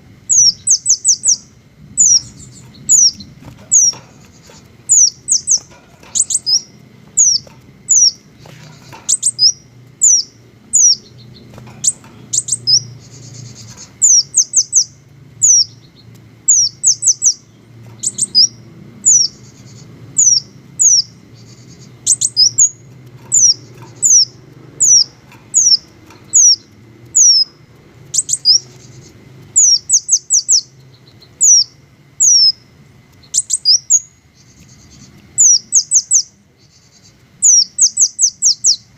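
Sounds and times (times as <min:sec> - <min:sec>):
bird buzzy trills: 0:00.0 - 0:38.9
hummingbird chirping: 0:00.0 - 0:38.9.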